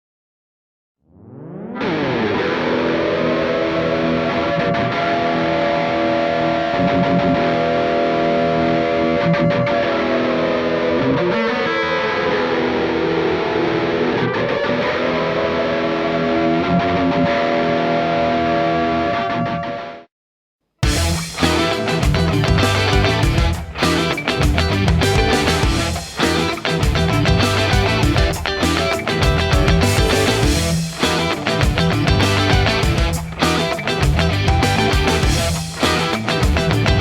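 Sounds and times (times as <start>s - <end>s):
distorted electric guitar chord: 1.8s - 19.2s, 20.8s - 37.0s.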